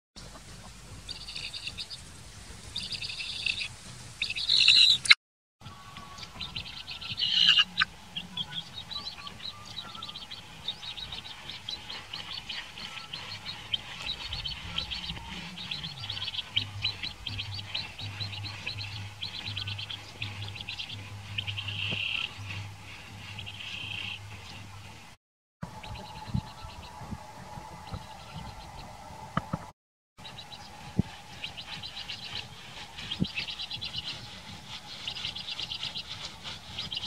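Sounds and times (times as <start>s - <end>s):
birds chirping: 0.2s - 29.6s, 30.2s - 37.0s.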